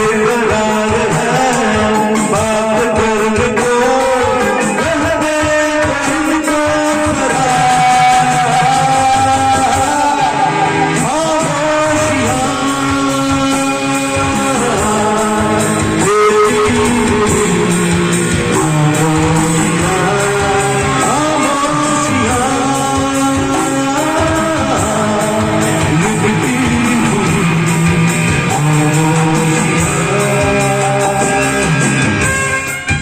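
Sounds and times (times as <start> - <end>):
guitar-led song: 0.0 - 33.0.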